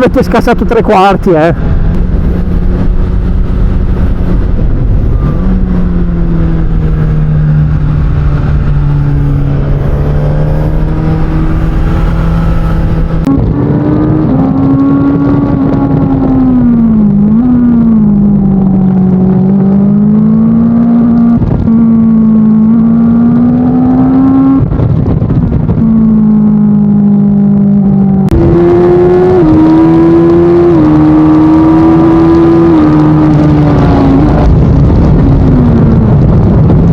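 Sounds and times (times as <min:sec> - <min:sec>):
motorcycle engine while riding: 0:00.0 - 0:36.9.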